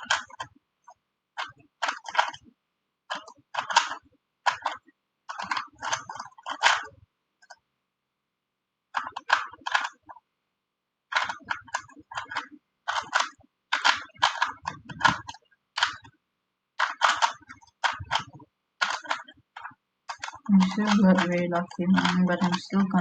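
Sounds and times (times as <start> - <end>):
puzzle cube plastic clicking: 0.0 - 7.6, 8.9 - 10.2, 11.1 - 16.2, 16.8 - 23.0.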